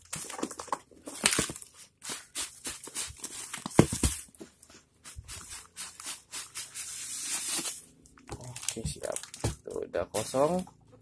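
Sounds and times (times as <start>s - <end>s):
packaging rustling: 0.0s - 10.7s.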